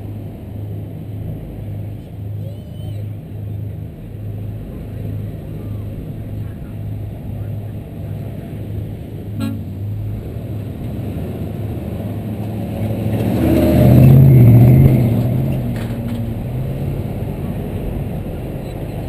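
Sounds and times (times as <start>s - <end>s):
pickup truck passing: 0.0s - 19.0s.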